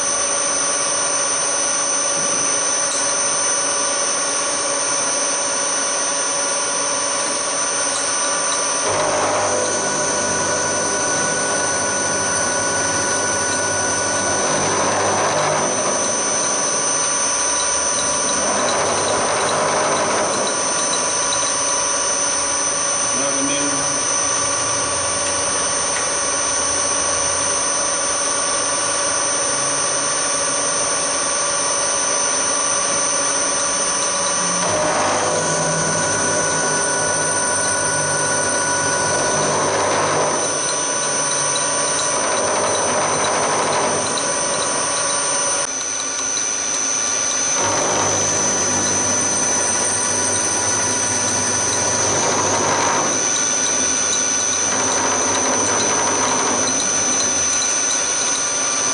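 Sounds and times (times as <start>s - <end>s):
milling machine whine: 0.0s - 58.9s
rough metal cutting noise: 0.0s - 58.9s.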